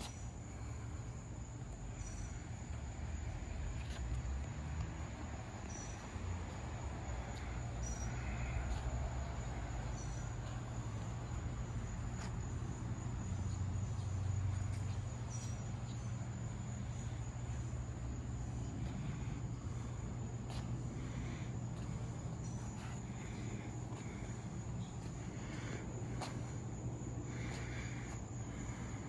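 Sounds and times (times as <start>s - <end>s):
high-pitched insect trill: 0.0s - 25.2s.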